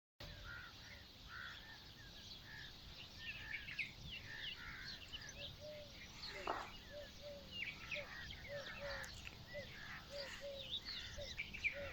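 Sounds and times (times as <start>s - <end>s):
birds chirping: 0.2s - 11.9s.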